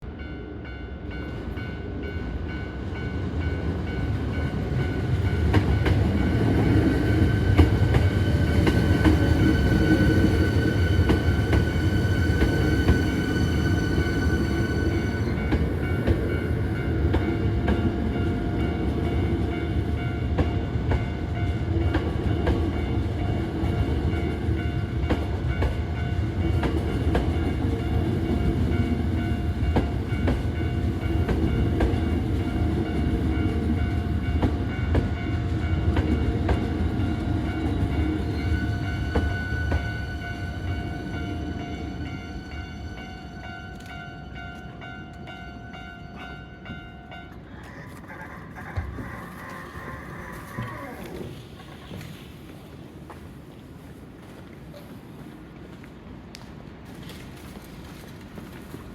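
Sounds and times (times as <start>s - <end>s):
electric train rumbling: 0.0s - 58.9s.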